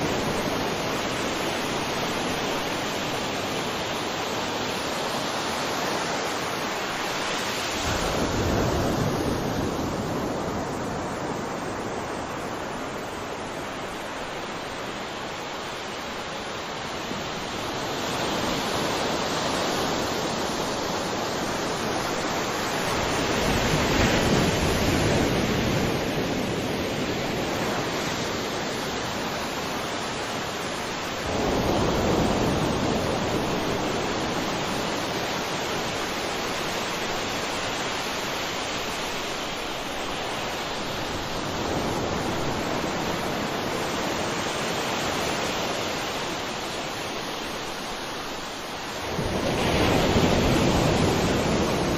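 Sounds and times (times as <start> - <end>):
sea waves washing onto shore: 0.0 - 51.9.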